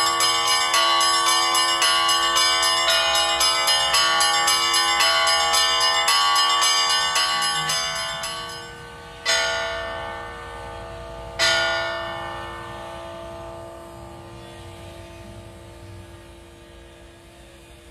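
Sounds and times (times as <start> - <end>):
bells ringing: 0.0 - 17.3.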